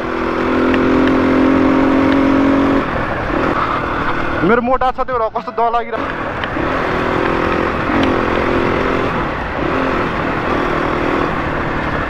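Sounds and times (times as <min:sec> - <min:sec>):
dirt bike engine running: 0:00.0 - 0:04.8, 0:05.9 - 0:12.0.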